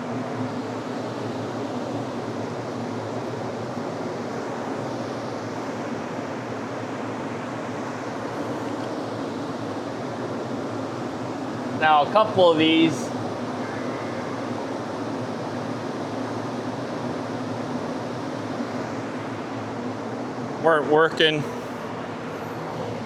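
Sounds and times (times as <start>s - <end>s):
steady machine drone: 0.0s - 23.0s.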